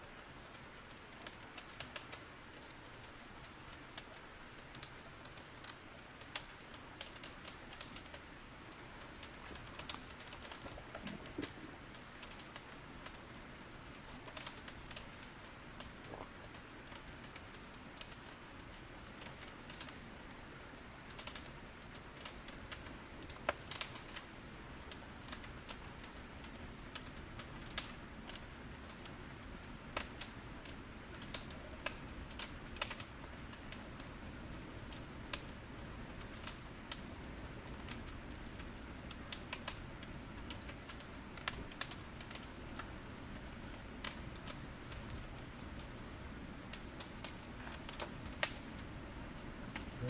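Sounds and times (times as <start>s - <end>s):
firewood crackling: 0.0s - 50.0s
fire hissing: 0.5s - 50.0s.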